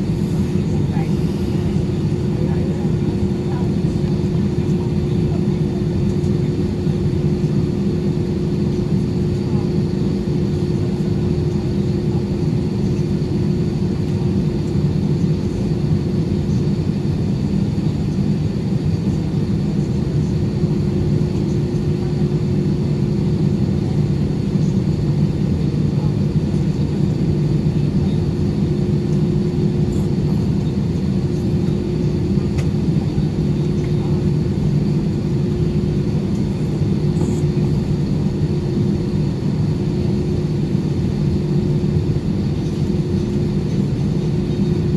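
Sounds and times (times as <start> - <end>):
airplane cabin engine drone: 0.0 - 44.9.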